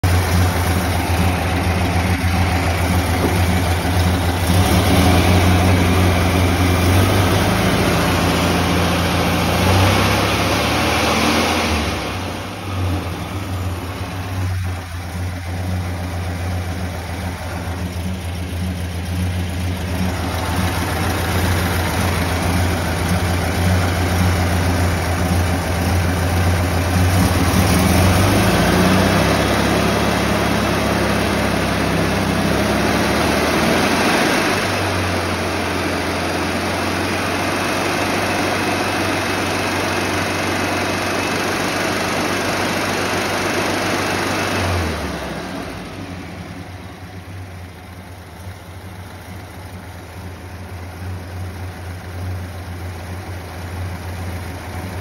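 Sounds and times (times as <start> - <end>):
engine running at fast idle: 0.0 - 55.0.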